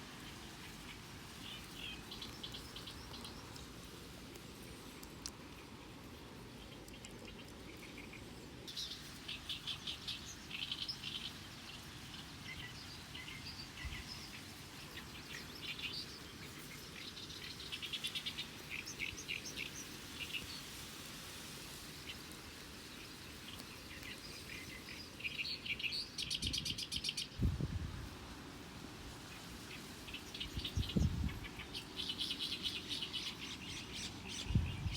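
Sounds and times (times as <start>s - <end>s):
small birds chirping: 0.0s - 27.6s, 29.1s - 34.9s
low background noise: 0.0s - 34.9s.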